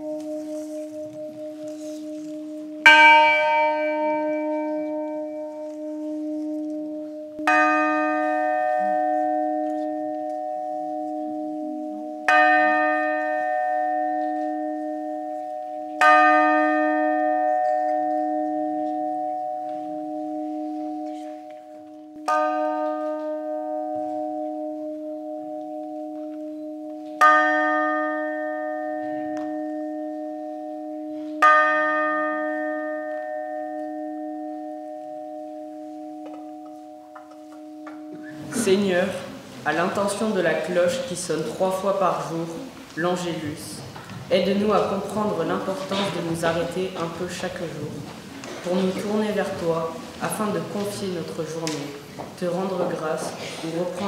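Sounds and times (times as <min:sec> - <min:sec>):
church bell ringing: 0:00.0 - 0:54.0.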